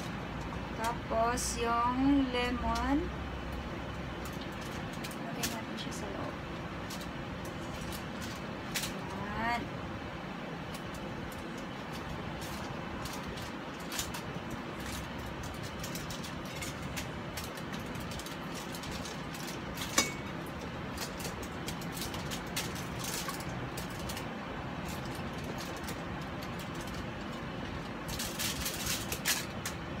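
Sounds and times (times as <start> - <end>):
aluminium foil crinkling: 0.0 - 30.0.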